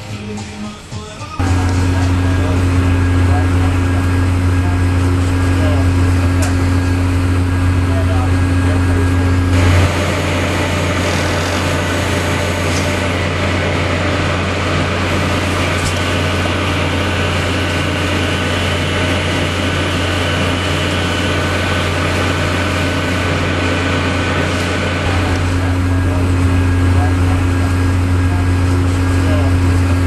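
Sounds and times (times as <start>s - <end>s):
ship machinery drone: 1.4s - 30.0s.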